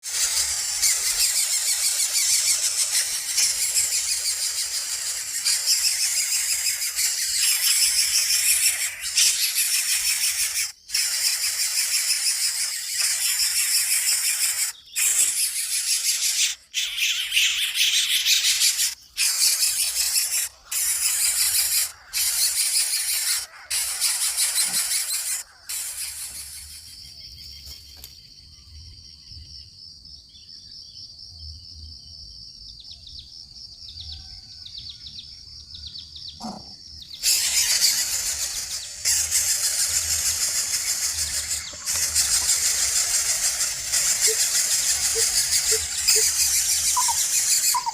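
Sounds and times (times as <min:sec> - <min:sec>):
nestlings hissing begging calls: 0:00.0 - 0:27.3, 0:36.4 - 0:47.9.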